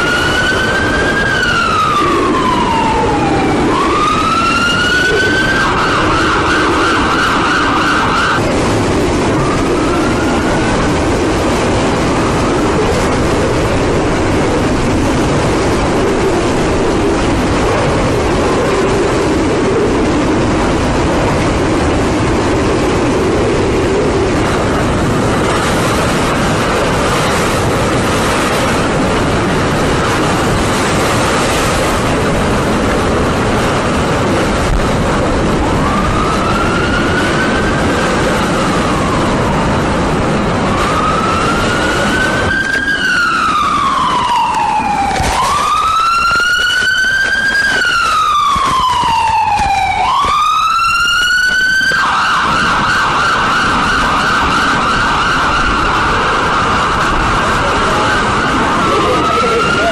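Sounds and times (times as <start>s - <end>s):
loud rushing noise: 0.0s - 59.9s
wailing siren: 0.0s - 59.9s.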